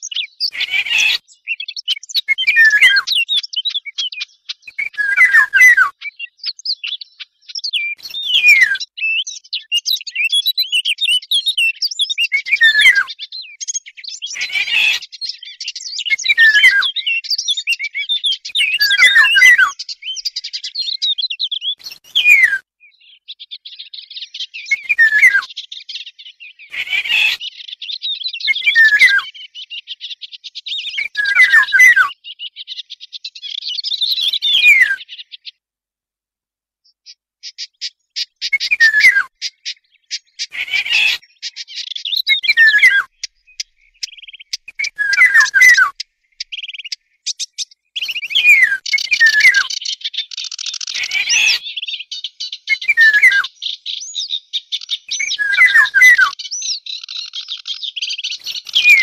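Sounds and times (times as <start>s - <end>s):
fast high bird twittering: 0.0s - 35.5s, 37.4s - 59.0s.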